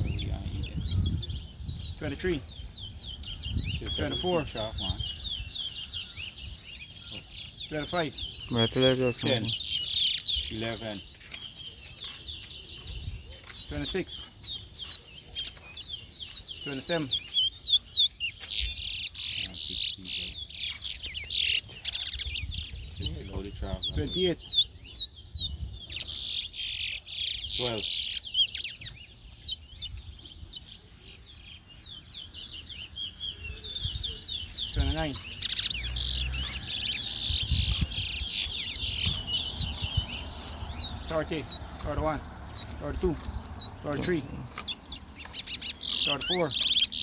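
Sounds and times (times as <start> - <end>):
finch singing: 0.0 - 47.0.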